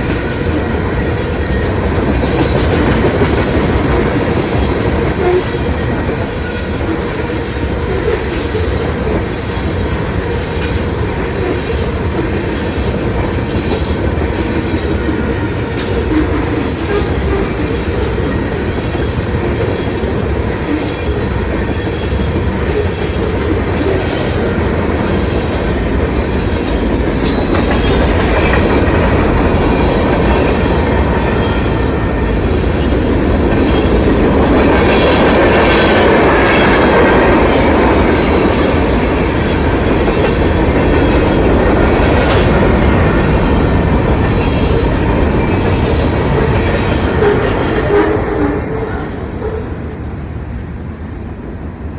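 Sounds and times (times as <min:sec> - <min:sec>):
train cars rumbling on rails: 0:00.0 - 0:51.9.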